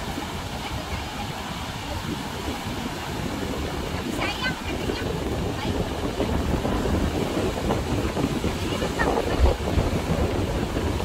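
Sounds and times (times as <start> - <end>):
breaking surf: 0.0 - 11.0
wind buffeting microphone: 0.0 - 11.0.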